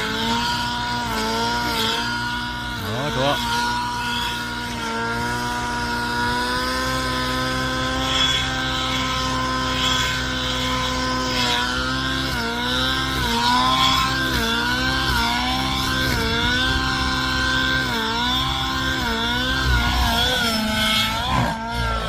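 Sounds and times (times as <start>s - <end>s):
model helicopter engine running: 0.0s - 22.0s.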